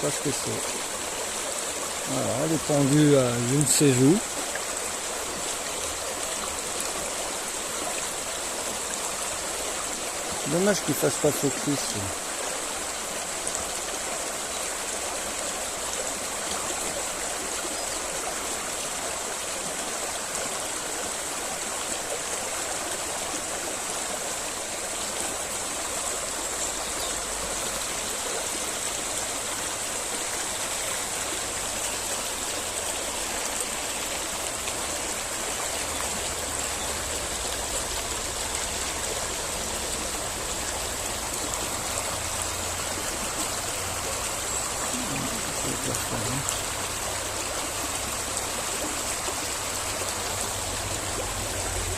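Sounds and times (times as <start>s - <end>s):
small river flowing: 0.0s - 51.9s.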